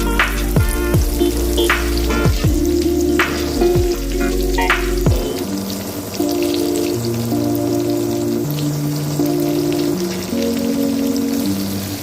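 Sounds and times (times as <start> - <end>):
background music with held tones: 0.0 - 12.0.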